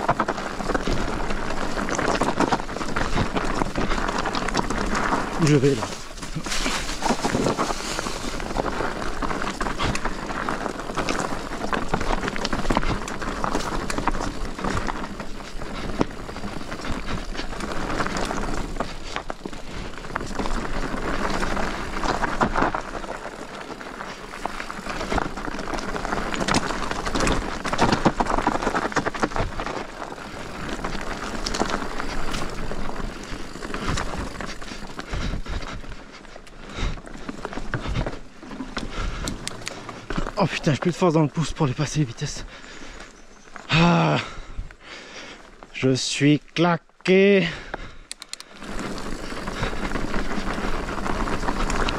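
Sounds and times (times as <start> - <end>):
bike knocking and rattling: 0.0 - 42.0, 47.5 - 51.9
bike tyres rolling on dirt: 0.0 - 51.9.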